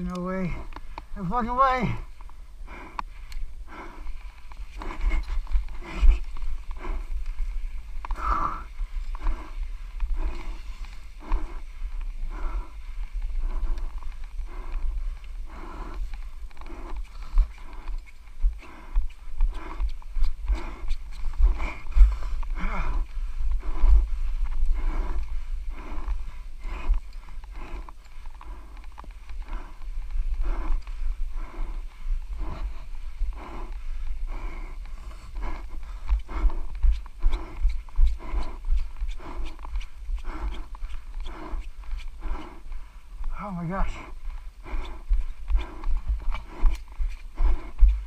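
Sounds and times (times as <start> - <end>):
person panting hard: 0.0 - 48.0
steady low rumble: 0.0 - 48.0.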